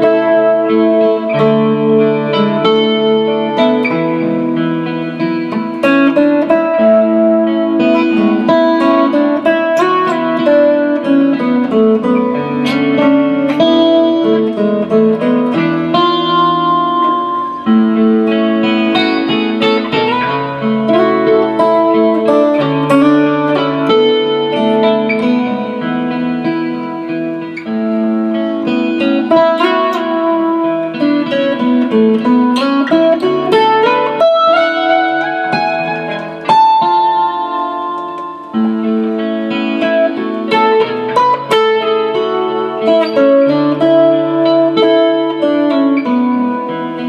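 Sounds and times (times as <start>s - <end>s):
acoustic guitar melody: 0.0s - 47.0s.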